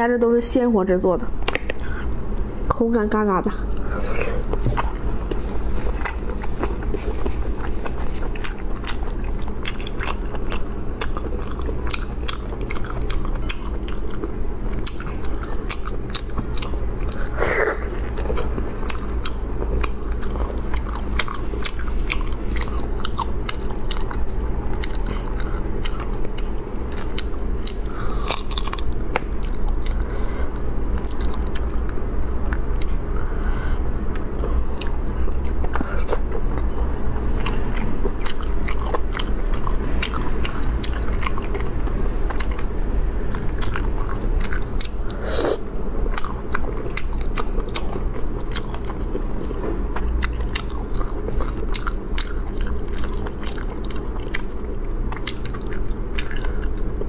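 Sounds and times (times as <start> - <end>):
low hum: 0.0 - 57.0
chewing and sucking sea snails: 3.5 - 57.0.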